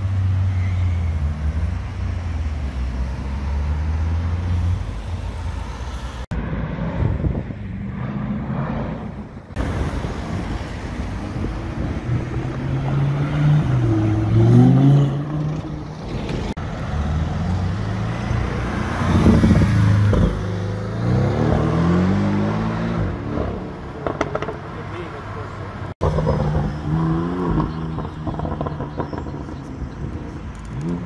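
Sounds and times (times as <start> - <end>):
street traffic noise: 0.0 - 31.0.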